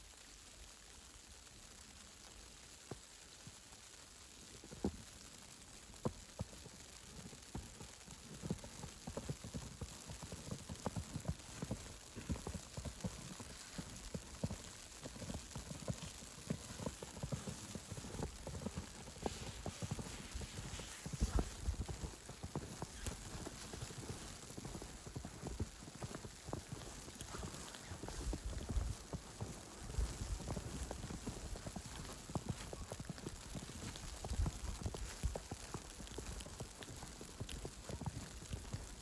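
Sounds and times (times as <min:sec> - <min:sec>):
faint steady hiss: 0:00.0 - 0:39.0
footsteps crunching on snow: 0:06.4 - 0:39.0.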